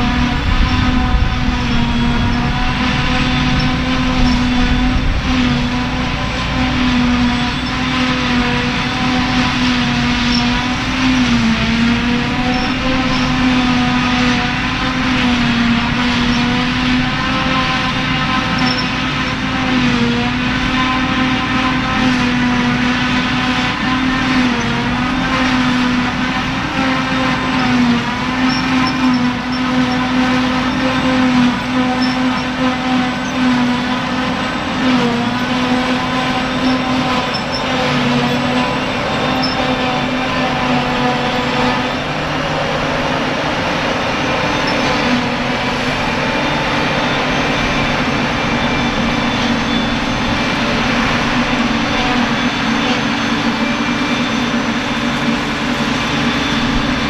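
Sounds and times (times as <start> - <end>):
forage harvester whining: 0.0 - 57.0.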